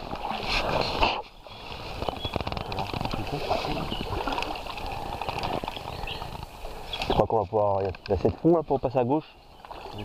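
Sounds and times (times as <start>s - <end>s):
paddles splashing in water: 0.0s - 10.0s.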